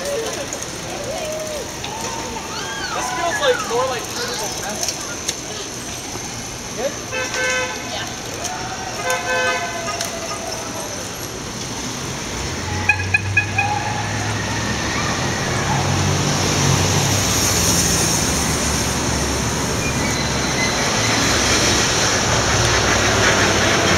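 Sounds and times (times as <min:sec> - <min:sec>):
street traffic: 0:00.0 - 0:23.9.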